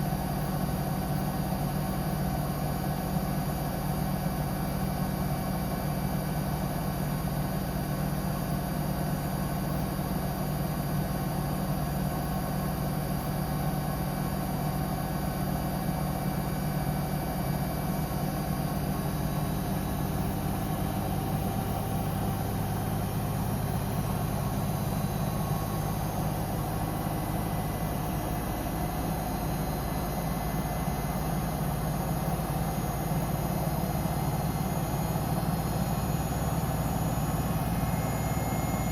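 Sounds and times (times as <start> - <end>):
washing machine spinning hum: 0.0 - 38.9.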